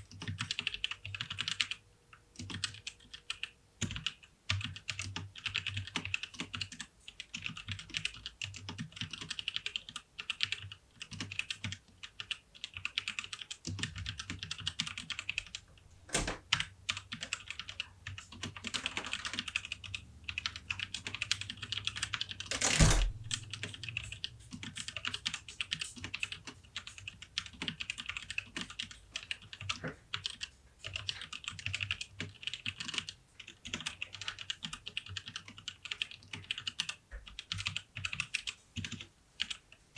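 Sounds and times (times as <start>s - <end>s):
mechanical keyboard typing: 0.0s - 39.7s.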